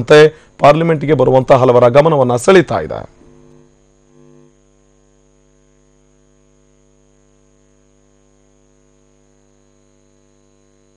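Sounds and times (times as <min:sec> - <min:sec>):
faint electrical hum: 0:00.0 - 0:10.9.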